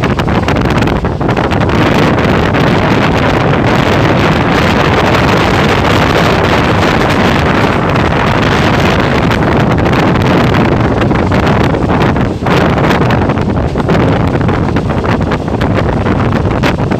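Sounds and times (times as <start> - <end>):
passenger train rushing past: 0.0 - 16.9
wind buffeting microphone: 0.0 - 16.9.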